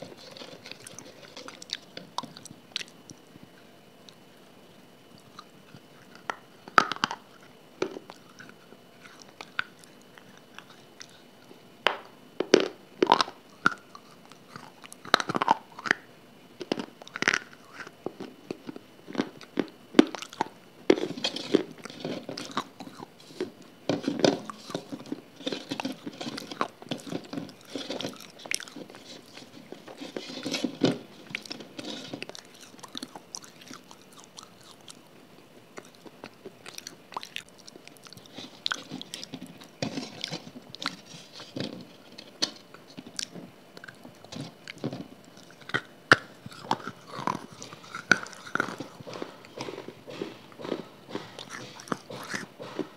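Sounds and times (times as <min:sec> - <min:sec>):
biting crunching and chewing: 0:00.0 - 0:04.3, 0:05.0 - 0:52.9.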